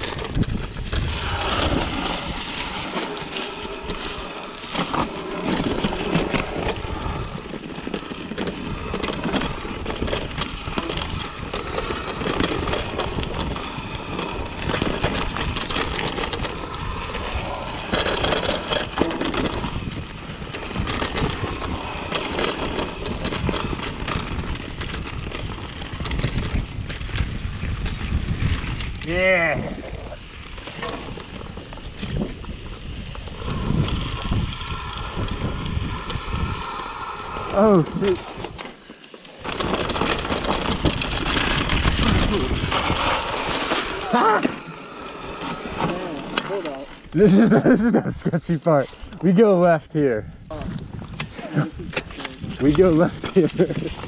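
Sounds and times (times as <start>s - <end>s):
bike rattling and knocking: 0.0s - 54.0s
tyres rushing on dirt: 0.0s - 54.0s
wind rumbling on microphone: 0.0s - 54.0s.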